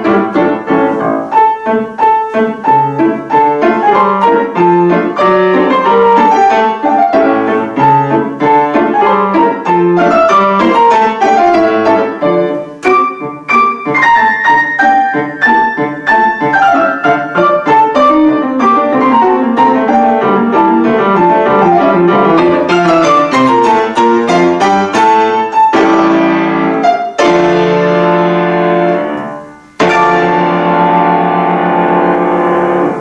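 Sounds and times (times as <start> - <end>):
piano playing: 0.0 - 33.0.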